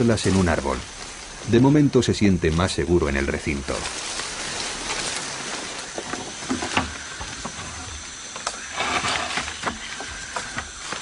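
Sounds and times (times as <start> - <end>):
leaves and twigs rustling: 0.0 - 11.0.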